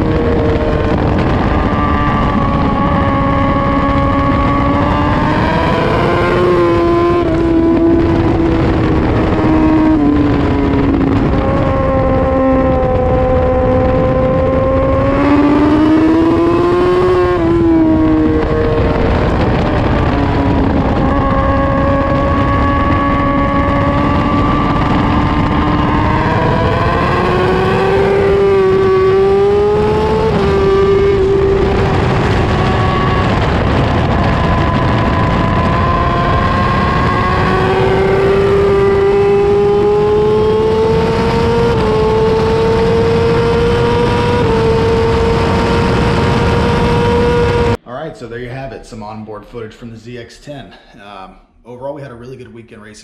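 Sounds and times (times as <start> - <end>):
motorcycle engine racing: 0.0 - 47.8
rushing wind: 0.0 - 50.2.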